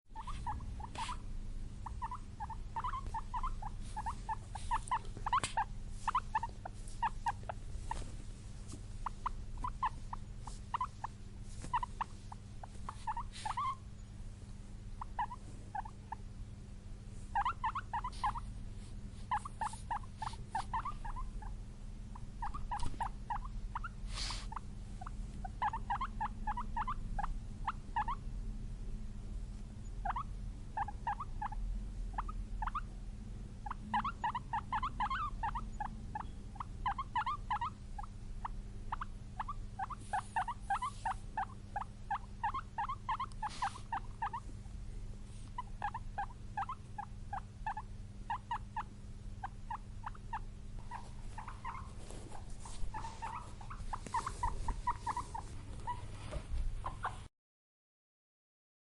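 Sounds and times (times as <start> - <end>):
guinea pig squeaking: 0.1 - 8.2, 9.0 - 14.1, 15.0 - 16.3, 17.3 - 18.6, 19.2 - 28.2, 29.8 - 32.9, 33.6 - 44.8, 45.5 - 57.3
steady low hum: 0.1 - 57.3.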